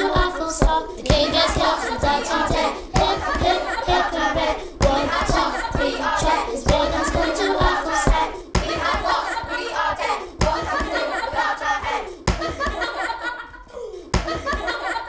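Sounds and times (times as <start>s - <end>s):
group chanting in unison: 0.0s - 13.1s.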